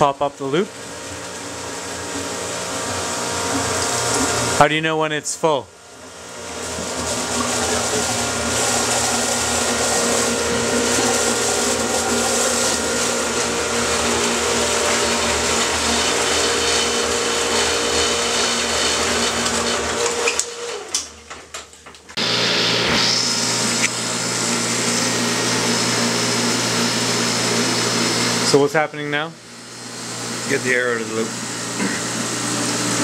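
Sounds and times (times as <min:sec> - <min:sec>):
pump churning water: 0:00.0 - 0:20.9, 0:22.2 - 0:28.9, 0:29.6 - 0:33.0.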